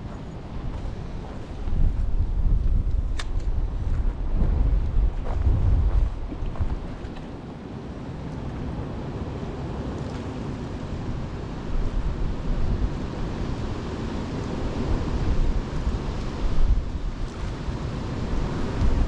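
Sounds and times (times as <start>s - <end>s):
gusty wind buffeting microphone: 0.0s - 9.8s, 10.6s - 19.0s.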